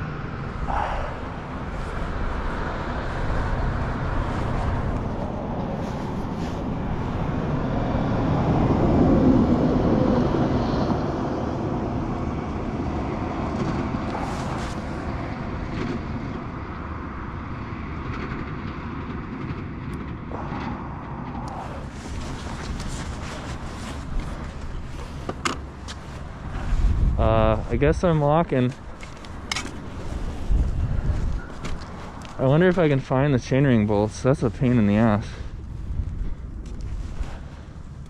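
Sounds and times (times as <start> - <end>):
vehicle passing: 0.0 - 18.3, 20.3 - 38.0
road traffic: 0.0 - 38.0.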